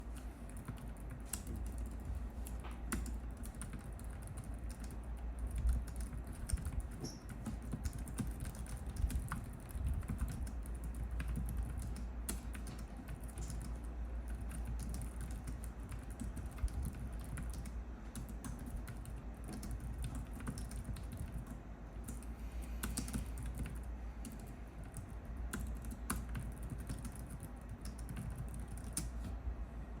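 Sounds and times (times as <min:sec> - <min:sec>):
keyboard typing clicks: 0:00.2 - 0:29.4.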